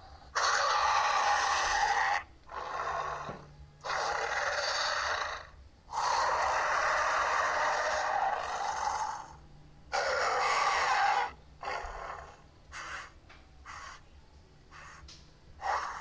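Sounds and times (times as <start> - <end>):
breathy hissing creature calls: 0.2 - 14.0, 14.7 - 16.0.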